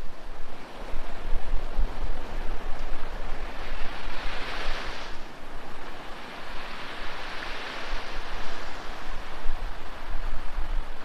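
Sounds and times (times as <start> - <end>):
small waves washing on shore: 0.0 - 11.0
wind rumble on microphone: 0.0 - 11.0.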